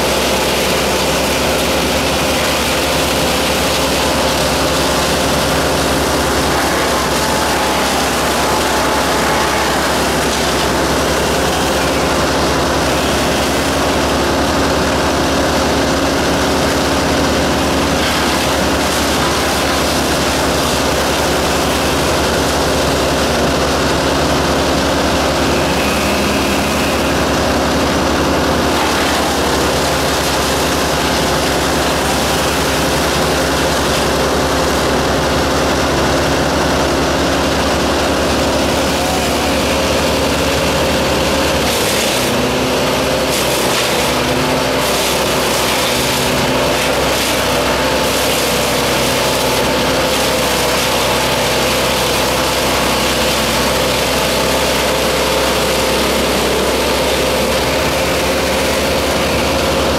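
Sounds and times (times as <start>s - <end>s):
heavy engine droning: 0.0s - 59.9s.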